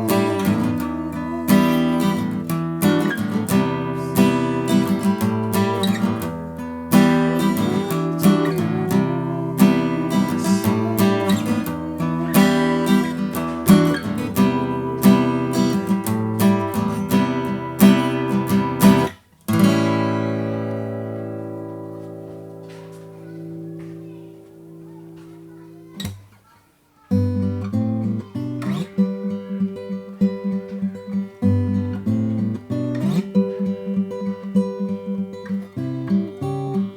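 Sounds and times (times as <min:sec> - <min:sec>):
acoustic guitar strummed chords: 0:00.0 - 0:26.4, 0:27.1 - 0:36.9.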